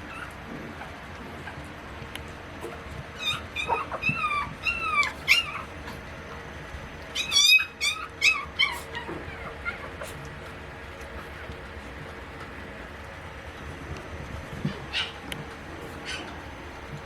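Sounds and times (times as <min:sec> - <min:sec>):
puppy whining: 0:00.0 - 0:01.7, 0:02.6 - 0:12.7, 0:14.5 - 0:17.0.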